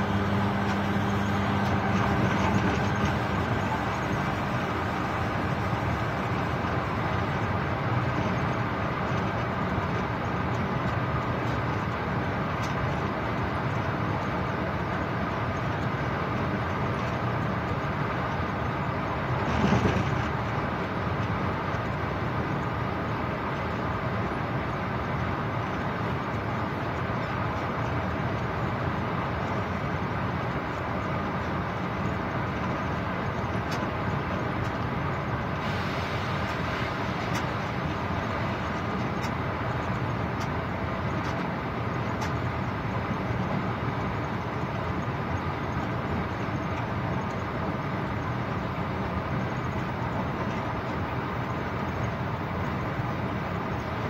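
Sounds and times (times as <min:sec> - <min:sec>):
train running noise in cab: 0:00.0 - 0:54.0.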